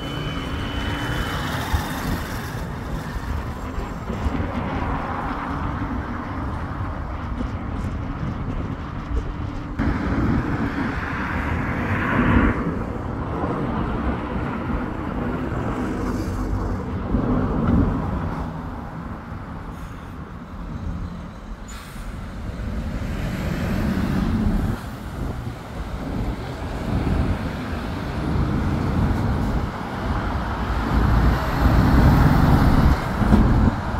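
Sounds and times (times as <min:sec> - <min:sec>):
heavy lorry engine: 0:00.0 - 0:33.9
road traffic passing: 0:00.0 - 0:33.9.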